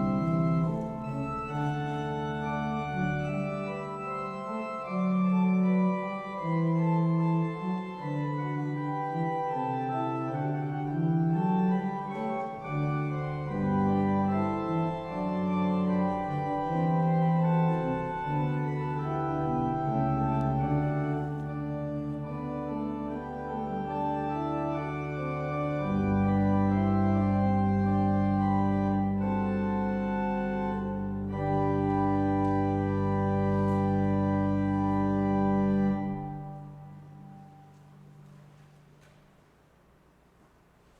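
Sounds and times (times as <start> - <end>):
church organ chords: 0.0 - 39.0.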